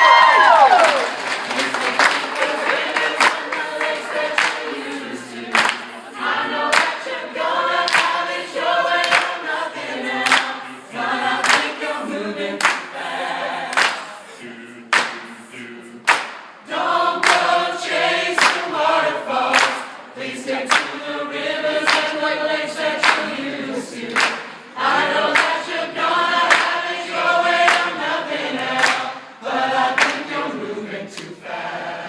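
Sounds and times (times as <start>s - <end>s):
vocal group singing in harmony: 1.4s - 32.0s.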